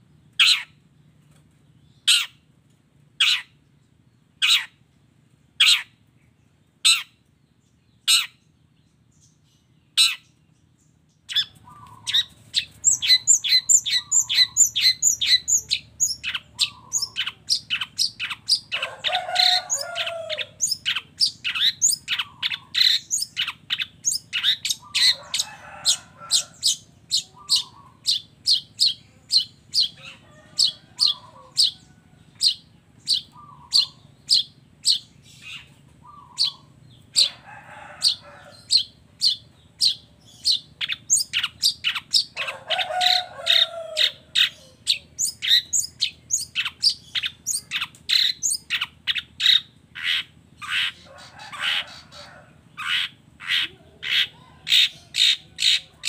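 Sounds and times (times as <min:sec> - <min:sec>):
bird harsh chattering: 0:00.4 - 0:00.7, 0:03.2 - 0:03.6, 0:04.4 - 0:04.8, 0:05.6 - 0:05.9, 0:11.3 - 0:56.0.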